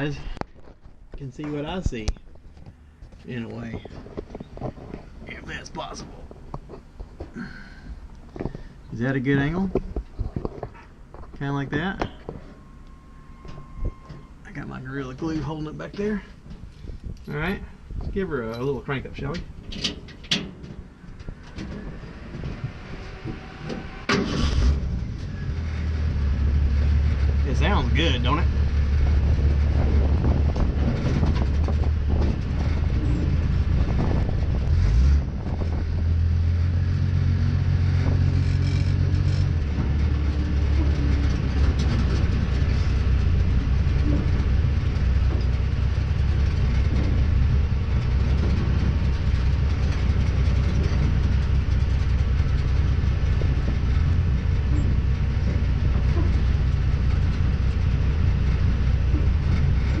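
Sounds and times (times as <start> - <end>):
truck engine heard from cab: 2.4 - 60.0.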